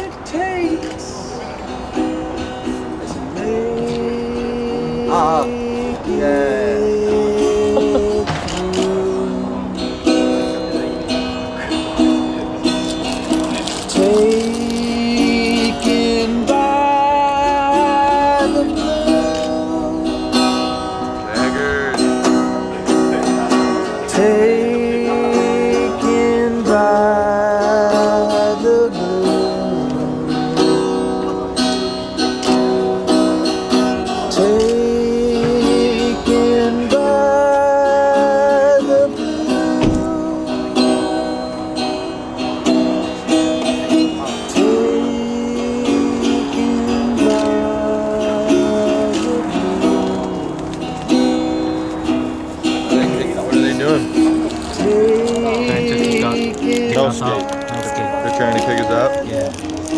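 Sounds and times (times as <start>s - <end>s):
man singing: 0.0s - 1.4s, 3.0s - 11.0s, 13.3s - 22.0s, 23.4s - 31.4s, 33.6s - 42.4s, 43.7s - 50.7s, 52.8s - 59.9s
small acoustic string instrument: 0.0s - 59.9s.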